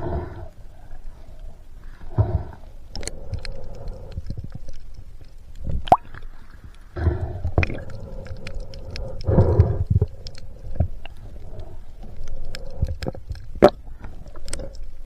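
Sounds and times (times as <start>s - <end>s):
muffled breaths through snorkel: 0.0s - 5.1s, 6.3s - 15.0s.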